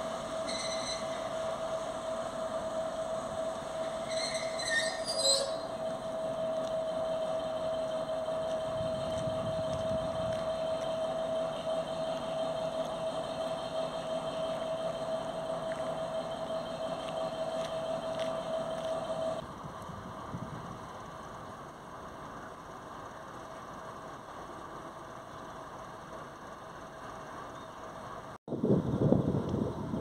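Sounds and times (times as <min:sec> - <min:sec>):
diesel locomotive engine idling: 0:00.0 - 0:30.0
steady high whine: 0:00.0 - 0:30.0.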